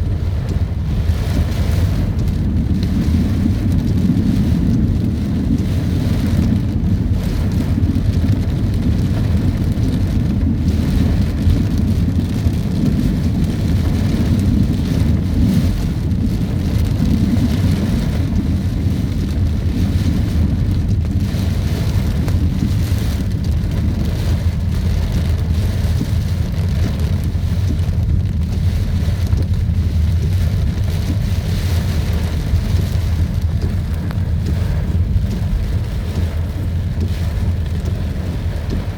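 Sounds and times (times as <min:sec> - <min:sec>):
strong wind rumbling: 0:00.0 - 0:38.9.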